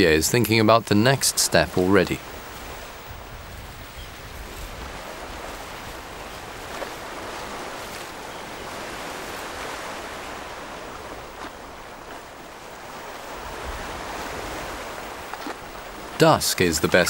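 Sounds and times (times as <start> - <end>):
surf waves washing onto beach: 0.0 - 17.0.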